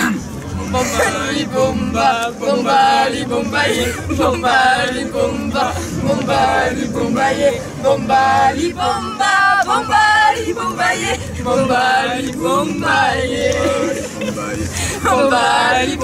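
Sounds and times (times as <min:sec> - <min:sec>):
group singing unaccompanied: 0:00.0 - 0:16.0.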